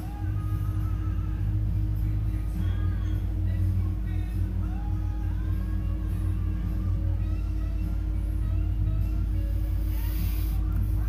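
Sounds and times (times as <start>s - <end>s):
music with singing: 0.0s - 11.0s.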